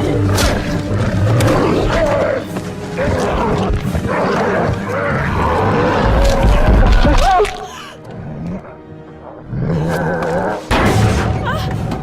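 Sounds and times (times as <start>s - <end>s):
animals snarling and growling: 0.0s - 10.7s
background music: 0.0s - 12.0s.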